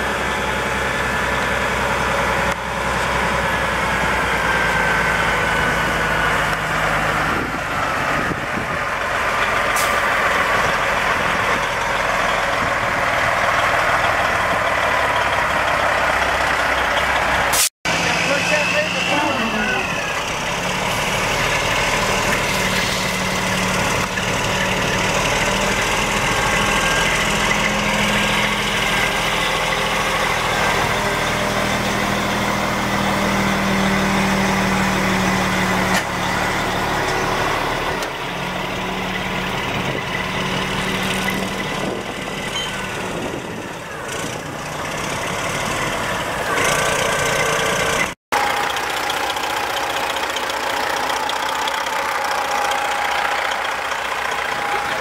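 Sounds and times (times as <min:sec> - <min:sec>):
diesel truck idling: 0:00.0 - 0:55.0.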